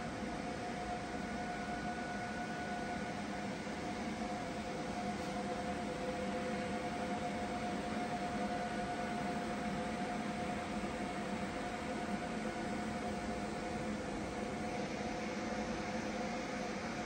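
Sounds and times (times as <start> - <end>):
mechanical hum with two tones: 0.0 - 17.0.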